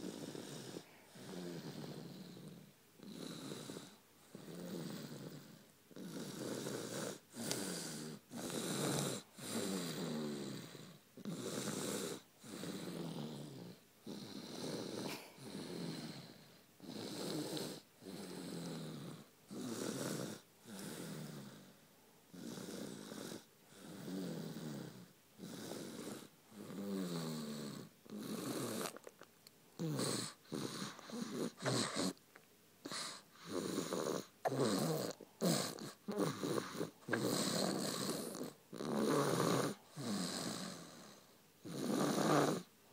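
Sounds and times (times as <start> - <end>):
loud rattling snoring: 0.0 - 21.7, 22.3 - 28.9, 29.8 - 32.2, 32.9 - 42.7.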